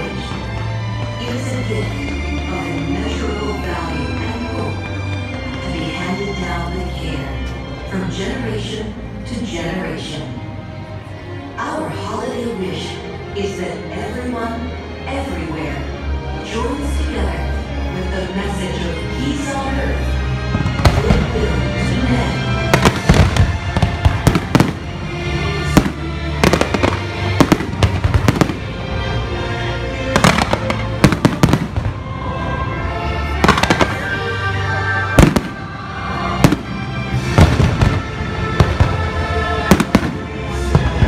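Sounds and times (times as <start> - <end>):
music playing: 0.0 - 41.0.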